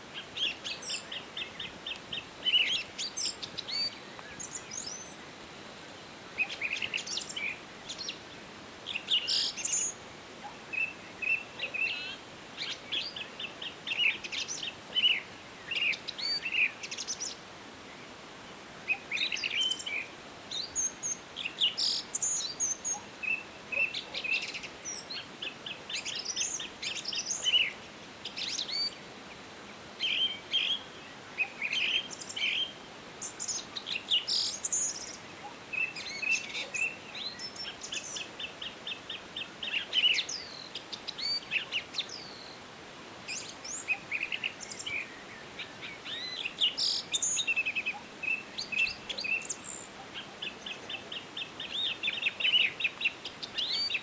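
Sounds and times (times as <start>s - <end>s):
faint background hiss: 0.0s - 54.0s
songbirds singing and calling: 0.0s - 54.0s.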